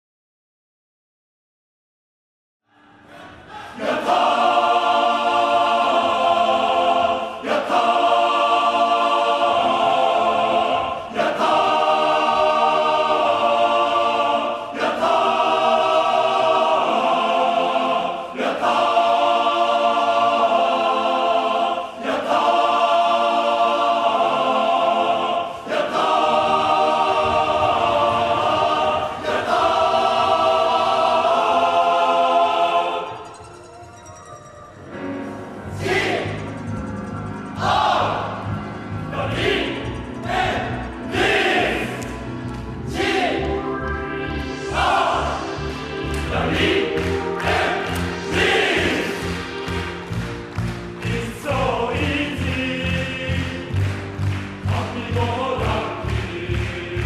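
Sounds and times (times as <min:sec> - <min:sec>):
men's choir singing in harmony: 0:02.7 - 0:33.4, 0:34.8 - 0:57.0.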